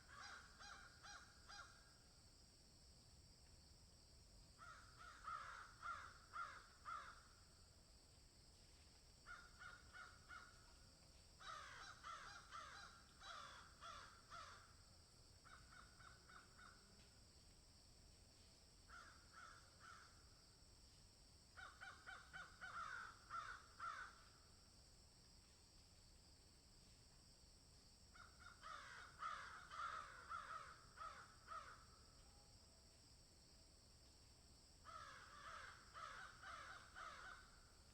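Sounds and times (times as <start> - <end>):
faint steady high hiss: 0.0 - 22.0, 22.6 - 37.9.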